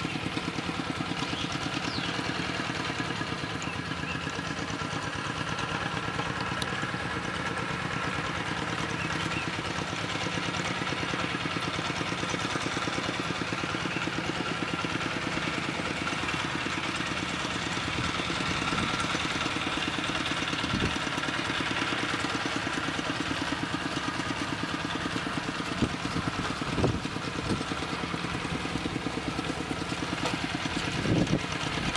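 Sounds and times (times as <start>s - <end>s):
small engine running: 0.0s - 31.9s.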